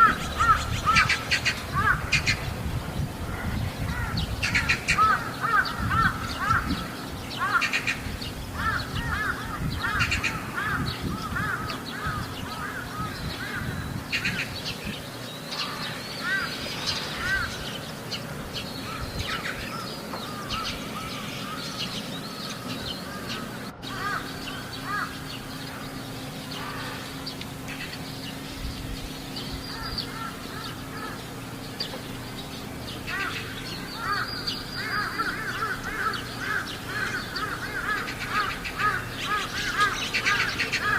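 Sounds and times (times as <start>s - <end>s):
crows cawing: 0.0s - 2.4s, 3.3s - 14.6s, 15.5s - 17.8s, 18.8s - 27.9s, 29.6s - 31.5s, 33.0s - 40.9s.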